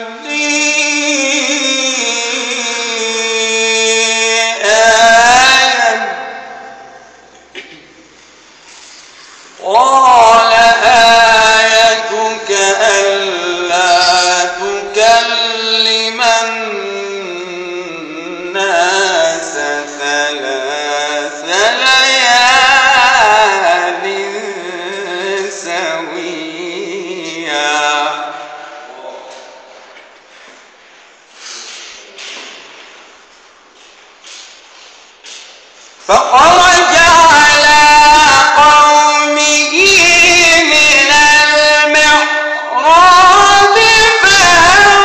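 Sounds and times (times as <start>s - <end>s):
man chanting melodically: 0.0s - 7.4s, 9.5s - 29.8s, 36.0s - 45.0s.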